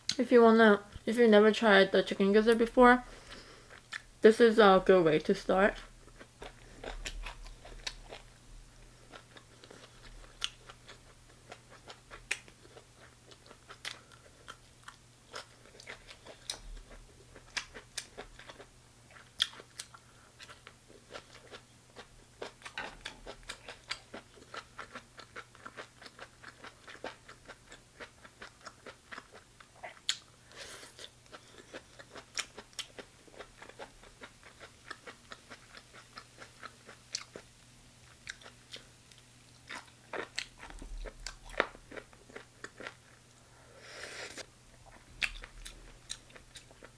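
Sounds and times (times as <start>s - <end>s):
faint low hum: 0.0s - 46.9s
chewing and crunching: 5.7s - 43.3s, 44.7s - 46.9s.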